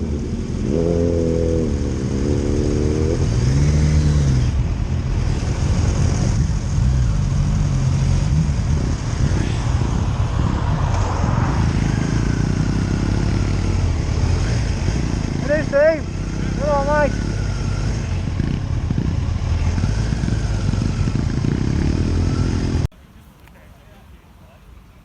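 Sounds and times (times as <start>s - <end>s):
motorcycle engine revving: 0.0s - 22.9s
road and wind noise: 0.0s - 25.0s.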